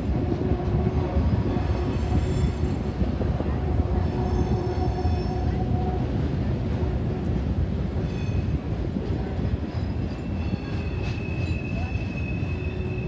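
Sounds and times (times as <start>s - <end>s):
train wheels rumbling on bridge: 0.0s - 13.0s.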